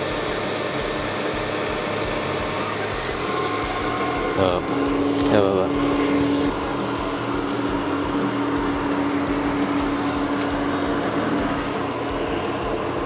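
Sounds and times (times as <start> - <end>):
robot vacuum cleaner whirring: 0.0 - 13.0.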